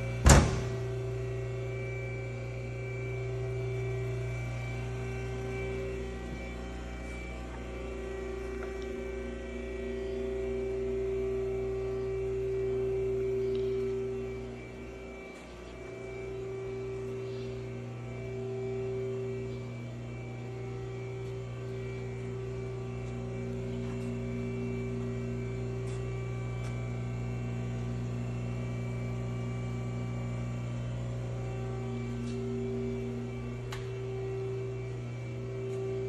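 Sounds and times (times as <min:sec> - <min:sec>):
electrical hum of idle lathe: 0:00.0 - 0:36.0
higher steady machine tones: 0:00.0 - 0:36.0.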